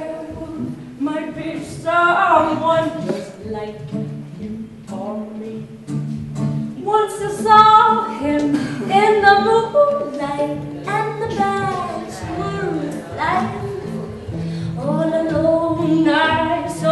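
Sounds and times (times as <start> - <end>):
person singing folk song: 0.0 - 16.9.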